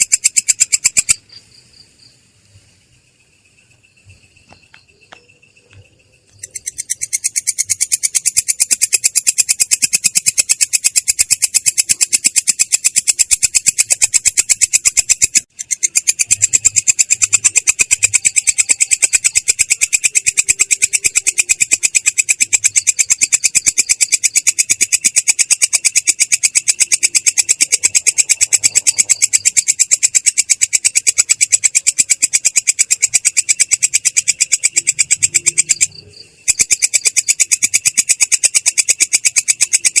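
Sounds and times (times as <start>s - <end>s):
katydid trilling: 0.0s - 1.2s, 6.3s - 40.0s.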